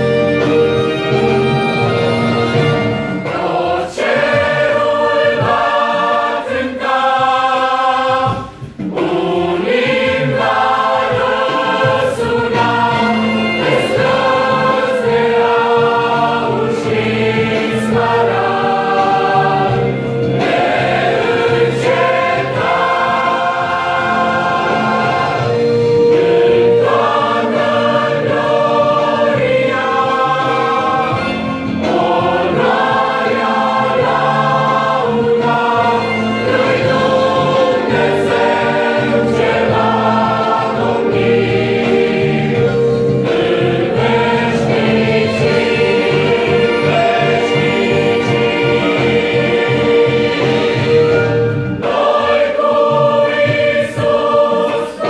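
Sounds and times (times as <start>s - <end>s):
mixed choir singing a hymn: 0.0s - 55.0s.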